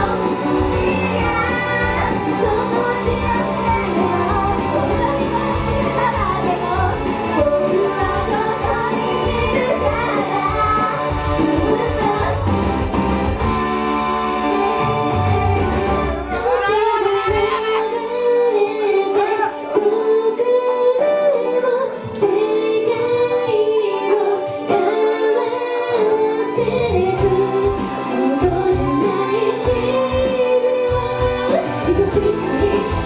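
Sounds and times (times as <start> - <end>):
women singing pop song: 0.0 - 33.0.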